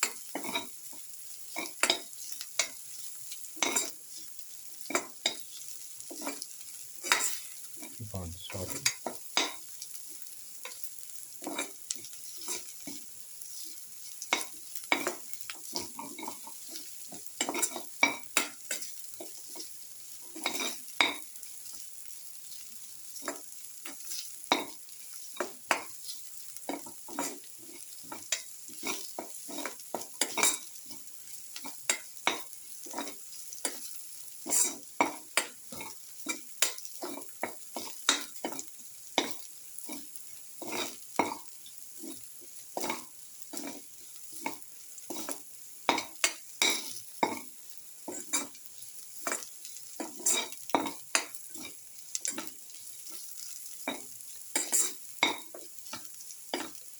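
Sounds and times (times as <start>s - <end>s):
food sizzling in hot oil: 0.0s - 56.9s
spatula scraping a pan: 1.5s - 7.7s, 11.4s - 21.0s, 23.2s - 56.8s.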